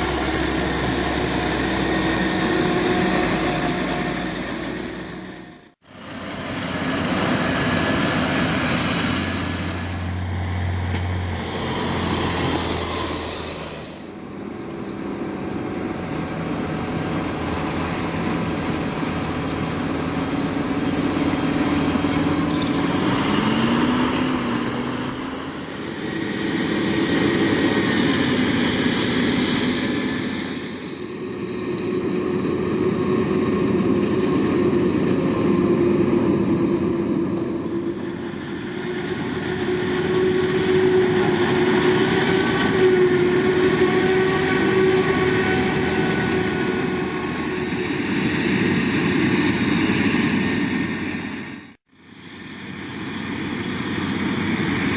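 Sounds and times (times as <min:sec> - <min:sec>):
farm machinery engines under load: 0:00.0 - 0:54.9.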